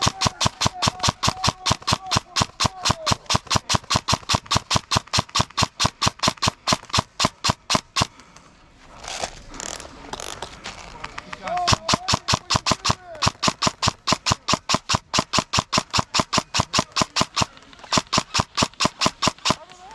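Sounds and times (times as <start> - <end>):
airsoft gun firing: 0.0 - 8.2, 11.2 - 19.9.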